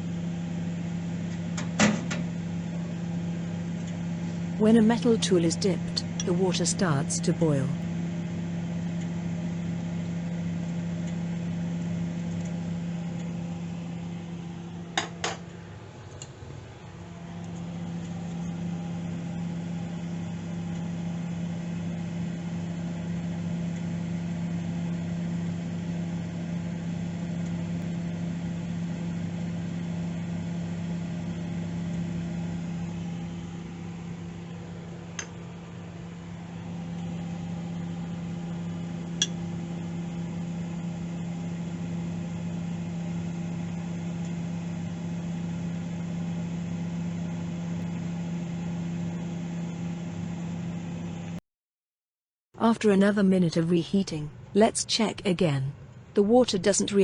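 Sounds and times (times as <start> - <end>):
microwave oven humming: 0.0 - 51.4.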